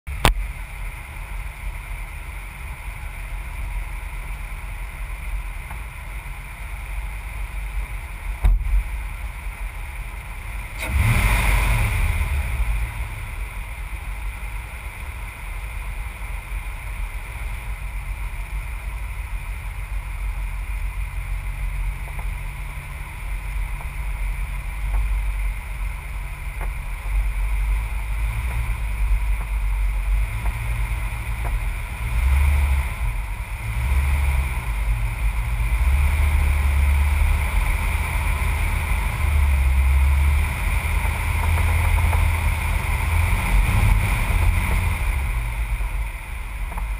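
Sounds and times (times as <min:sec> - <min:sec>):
road noise: 0:00.0 - 0:46.9
vehicle engine rumbling: 0:00.0 - 0:46.9
wind: 0:00.0 - 0:46.9.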